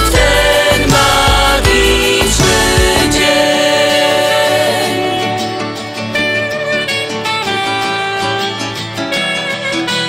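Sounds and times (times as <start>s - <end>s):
disco polo melody over a beat: 0.0s - 9.0s.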